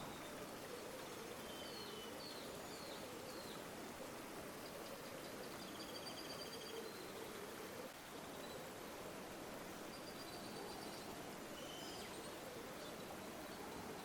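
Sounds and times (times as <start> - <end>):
river water flowing: 0.0 - 5.8, 6.6 - 14.0.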